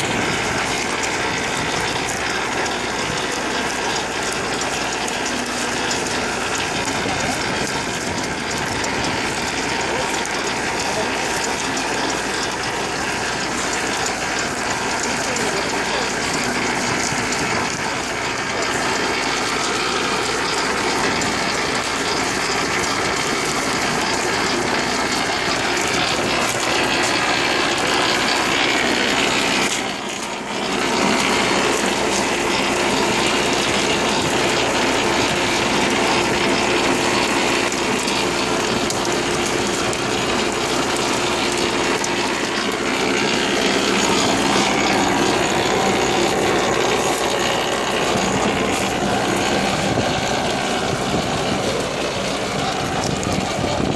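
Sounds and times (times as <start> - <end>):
potato harvester clattering: 0.0 - 53.9.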